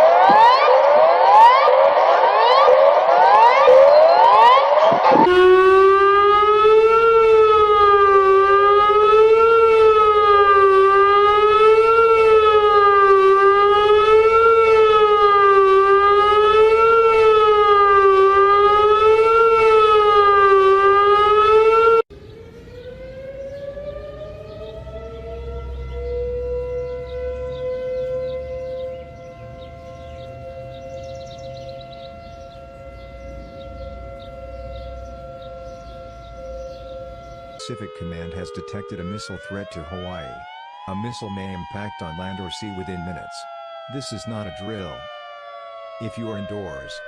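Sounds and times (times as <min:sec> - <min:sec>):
quieter siren winding up: 0:00.0 - 0:22.1, 0:22.7 - 0:47.0
civil defense siren wailing: 0:00.0 - 0:47.0
fast-sweeping siren: 0:00.0 - 0:47.0.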